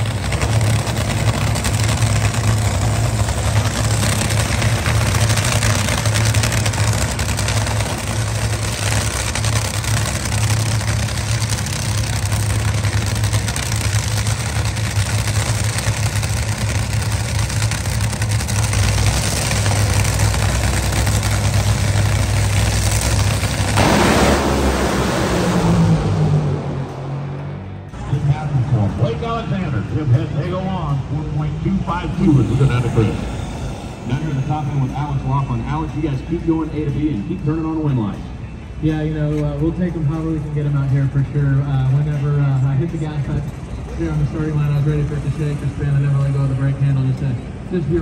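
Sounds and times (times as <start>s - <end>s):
drag racing engines running: 0.0s - 48.0s.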